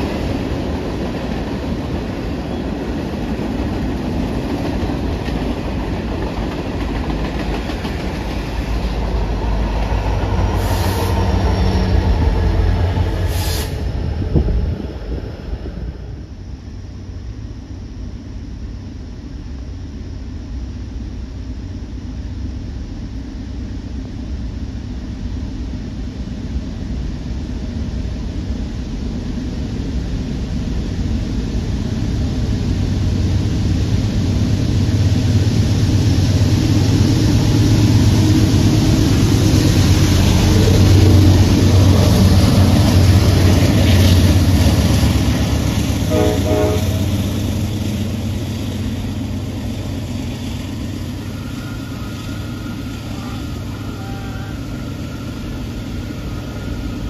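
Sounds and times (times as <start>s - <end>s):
locomotive engine drone: 0.0s - 57.0s.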